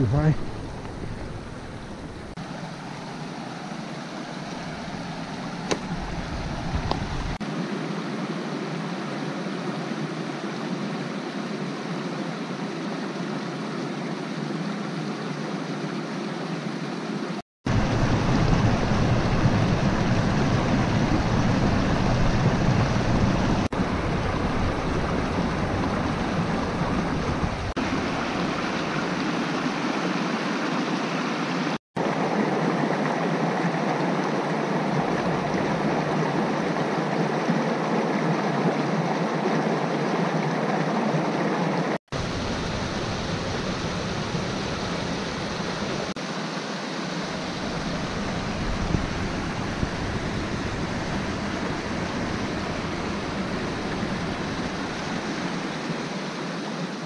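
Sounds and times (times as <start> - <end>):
waterfall and rapids rushing: 0.0 - 57.0.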